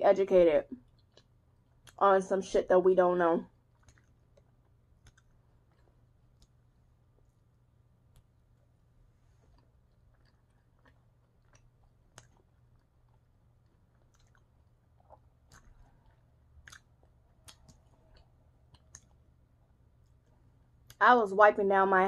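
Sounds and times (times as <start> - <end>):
chewing soft food: 0.8 - 2.0, 3.5 - 21.0.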